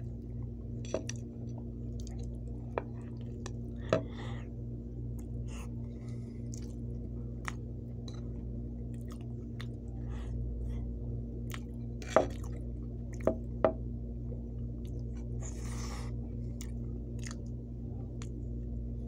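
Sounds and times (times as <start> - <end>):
low background hum: 0.0 - 19.0
wet chewing sounds: 0.1 - 4.4, 5.1 - 10.4, 11.4 - 13.6, 14.6 - 18.4.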